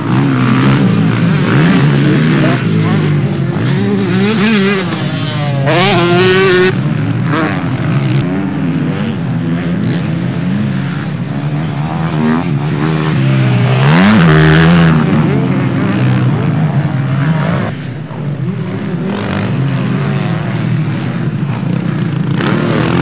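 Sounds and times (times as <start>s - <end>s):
motocross bikes revving past: 0.0s - 23.0s.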